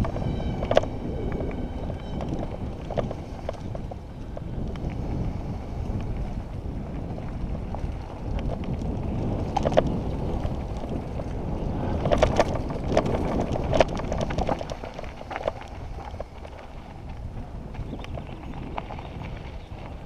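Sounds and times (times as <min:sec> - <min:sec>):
bike rattling over bumps: 0:00.0 - 0:20.0
tyre rumble on dirt: 0:00.0 - 0:20.0
wind: 0:00.0 - 0:20.0.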